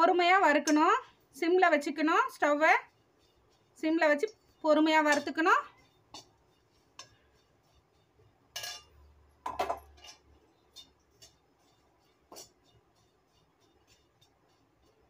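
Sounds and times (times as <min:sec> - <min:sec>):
utensil scraping a dry pan: 0:00.0 - 0:15.0.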